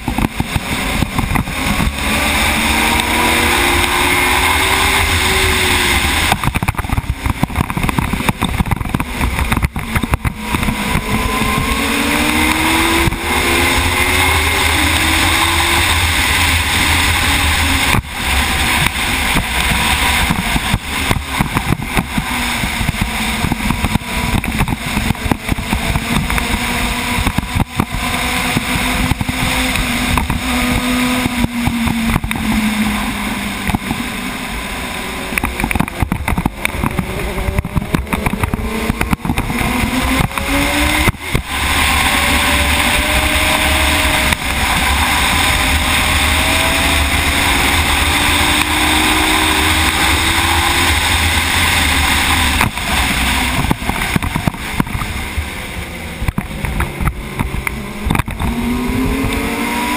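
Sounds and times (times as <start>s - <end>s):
heavy wind noise: 0.0s - 59.9s
motorcycle engine at full speed: 0.0s - 59.9s.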